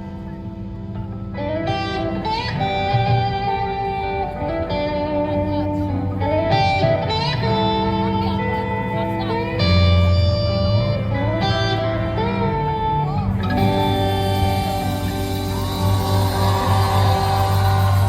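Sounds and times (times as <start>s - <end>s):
bass guitar: 0.0s - 18.0s
electric guitar melody: 0.0s - 18.0s.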